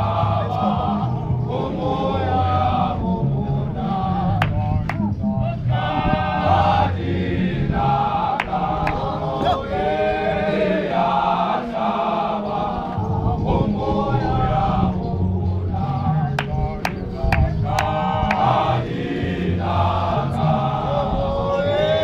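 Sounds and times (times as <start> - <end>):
men's choir singing a hymn: 0.0 - 22.0.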